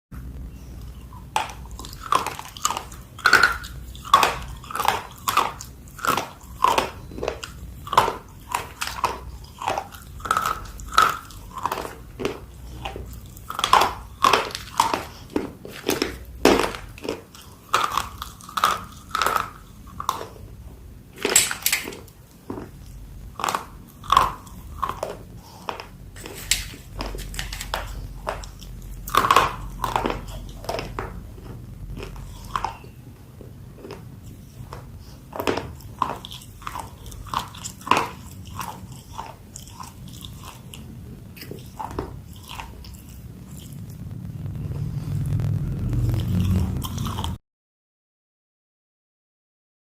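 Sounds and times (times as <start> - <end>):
person chewing dry clay crunching: 0.2 - 47.4.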